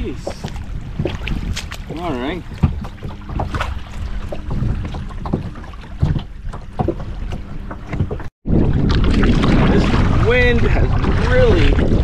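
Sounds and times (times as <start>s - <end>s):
small waves at shoreline: 0.0s - 12.0s
wind buffeting microphone: 0.0s - 12.0s.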